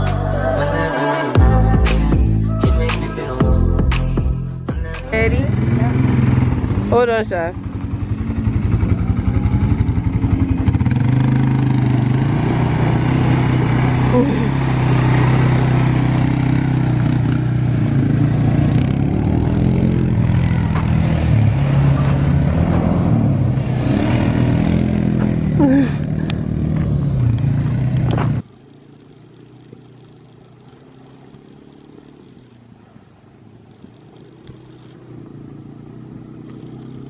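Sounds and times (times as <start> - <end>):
quad bike engine running: 0.0 - 37.0.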